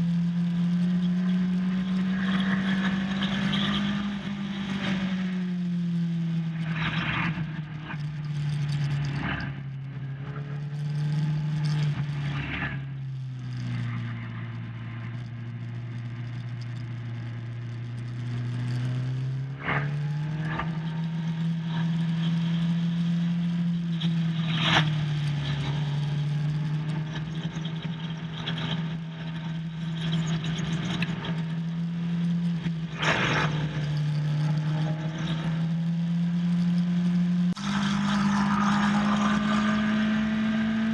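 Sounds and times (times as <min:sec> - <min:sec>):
motorcycle engine at high revs: 0:00.0 - 0:40.9.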